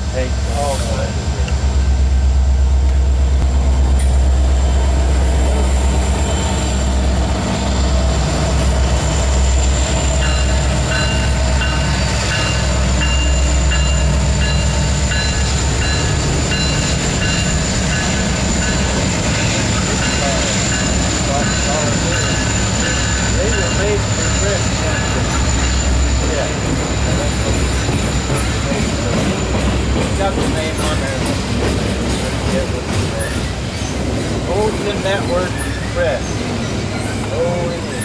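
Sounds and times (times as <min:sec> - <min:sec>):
diesel locomotive engine rumble: 0:00.0 - 0:38.0
wheels squeaking on rail: 0:05.4 - 0:38.0.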